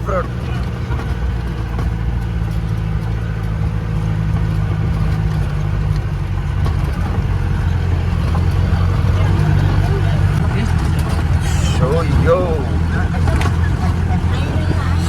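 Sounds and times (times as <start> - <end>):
jeep engine driving off-road: 0.0 - 15.0.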